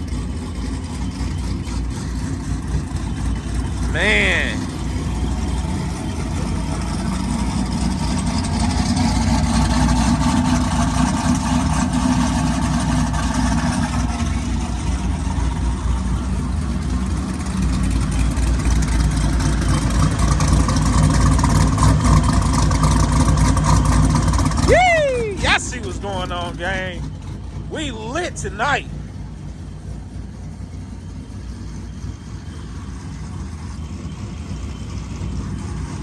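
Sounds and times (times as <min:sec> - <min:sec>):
car engine idling with lopey beat: 0:00.0 - 0:36.0.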